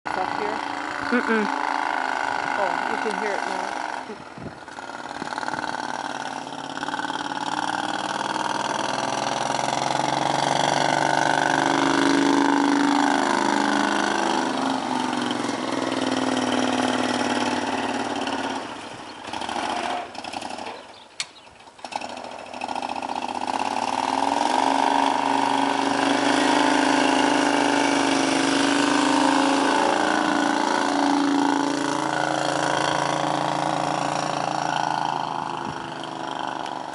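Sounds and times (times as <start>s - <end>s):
utility vehicle engine plowing snow: 0.1s - 36.9s.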